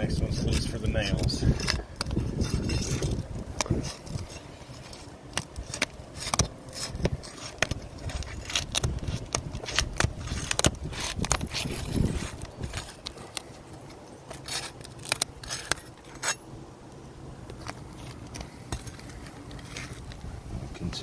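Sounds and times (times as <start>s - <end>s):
roof shingle cracking and scraping: 0.0s - 20.3s.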